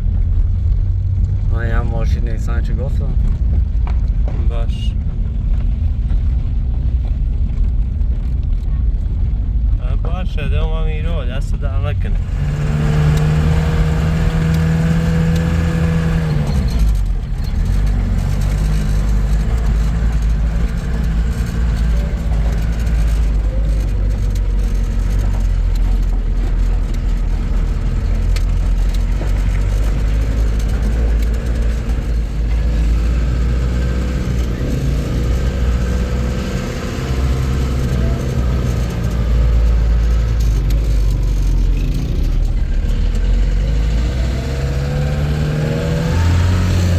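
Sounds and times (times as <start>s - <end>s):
vehicle engine and road rumble: 0.0s - 46.9s.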